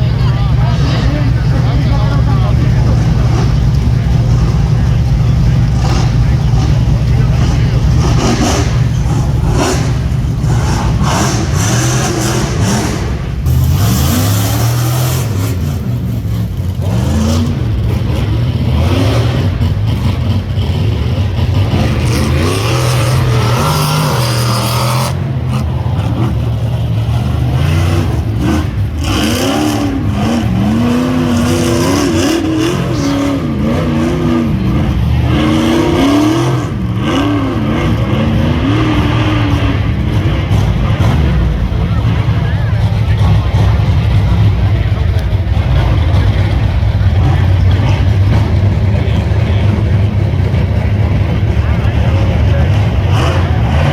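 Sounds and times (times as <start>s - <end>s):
engine revving hard: 0.0s - 53.9s.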